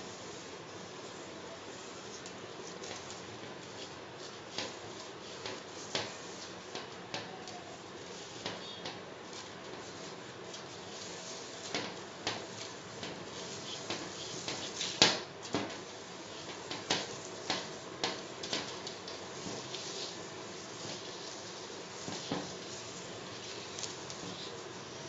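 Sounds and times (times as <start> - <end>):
steady low hiss: 0.0 - 25.0.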